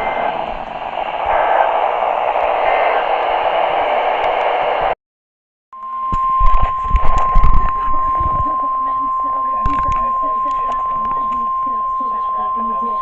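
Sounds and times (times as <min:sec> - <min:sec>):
radio static hiss: 0:00.0 - 0:05.0, 0:06.1 - 0:13.0.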